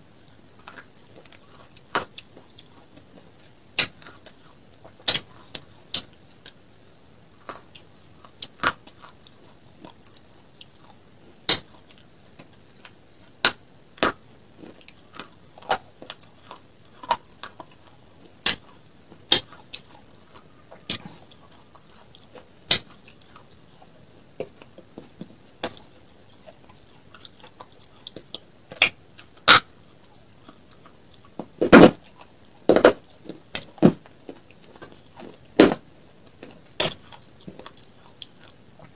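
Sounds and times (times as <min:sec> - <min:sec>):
chewing brittle mineral crunches: 0:00.2 - 0:38.9.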